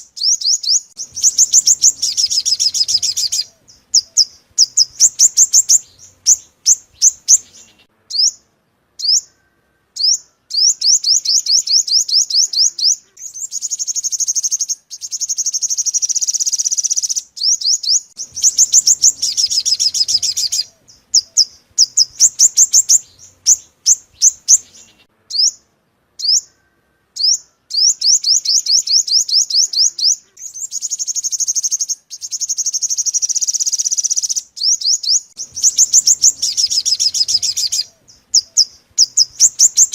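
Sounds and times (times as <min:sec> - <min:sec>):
sunbird chips and trills: 0:00.0 - 0:09.4, 0:10.0 - 0:26.6, 0:27.2 - 0:39.9
buzzy bird trills: 0:00.0 - 0:39.9.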